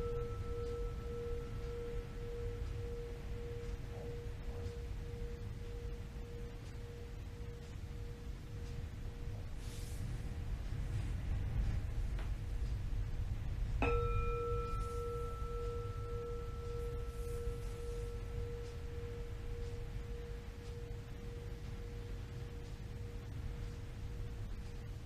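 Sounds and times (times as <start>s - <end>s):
metal singing bowl ringing: 0.0s - 9.7s, 13.8s - 25.0s.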